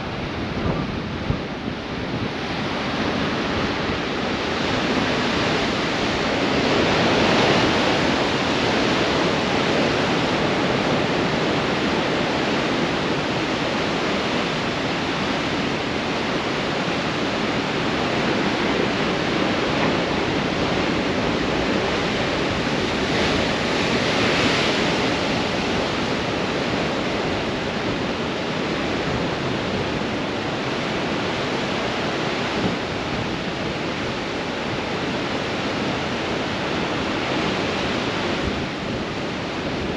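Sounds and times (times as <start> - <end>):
storm waves breaking on rocks: 0.0 - 39.9
strong wind: 0.0 - 39.9.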